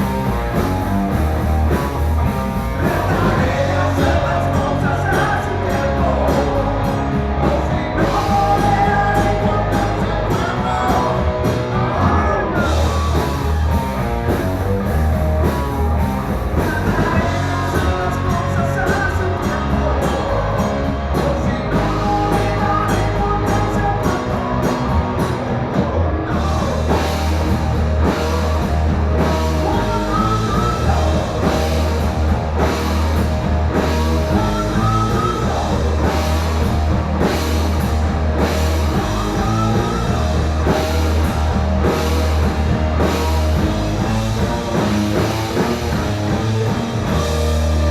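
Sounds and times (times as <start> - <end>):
rock song with sung vocal: 0.0 - 47.9.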